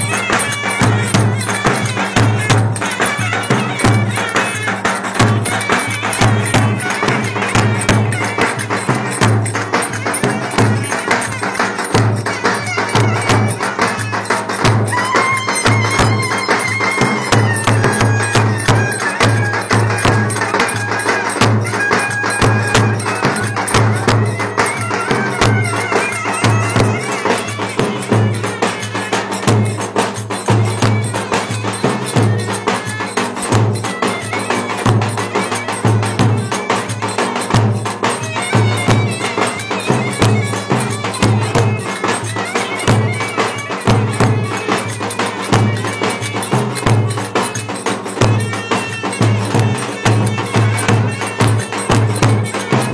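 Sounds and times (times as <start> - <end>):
folk dance music on clarinets: 0.0 - 52.9.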